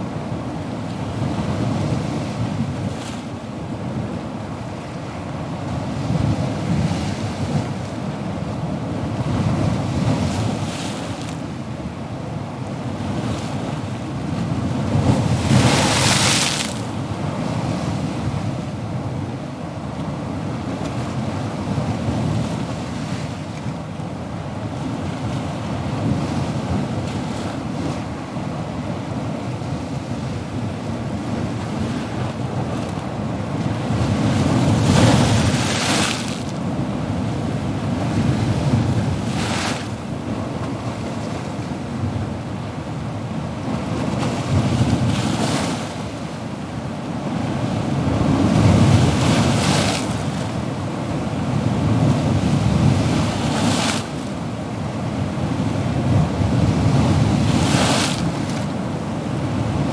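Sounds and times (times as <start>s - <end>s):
ocean surf rumble: 0.0s - 59.9s.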